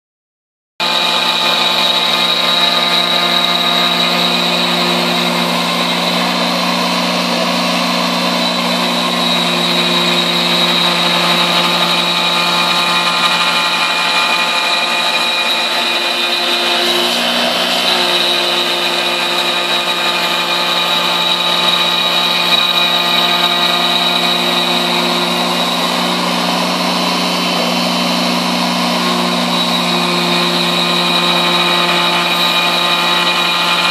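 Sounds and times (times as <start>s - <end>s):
router whine: 0.8s - 33.9s
wood cutting noise: 0.8s - 33.9s.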